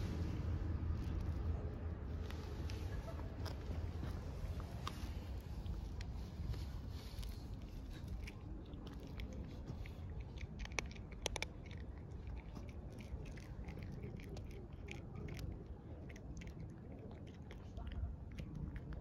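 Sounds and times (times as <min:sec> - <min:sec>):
low background rumble: 0:00.0 - 0:19.0
cat crunching dry kibble: 0:00.9 - 0:19.0.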